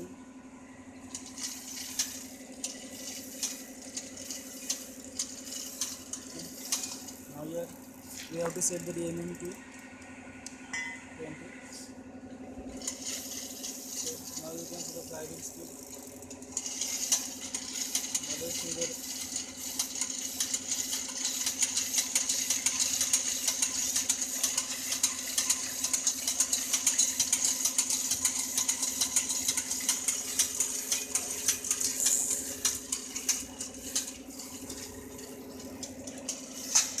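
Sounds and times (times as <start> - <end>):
model generator humming: 0.0 - 37.0
rapid clicking of gears: 0.9 - 10.0, 12.7 - 37.0.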